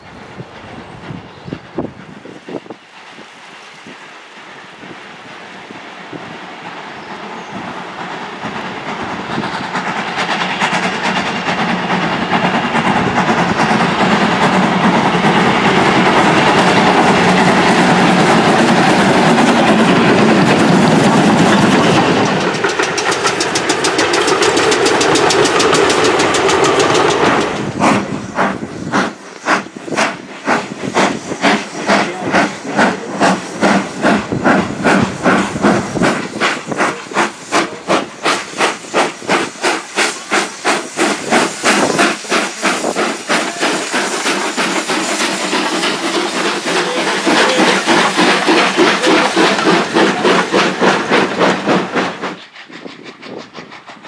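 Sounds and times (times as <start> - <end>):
steam hissing: 0.0 - 54.0
steam locomotive exhaust chuffs: 0.0 - 54.0
train rushing past: 0.0 - 54.0.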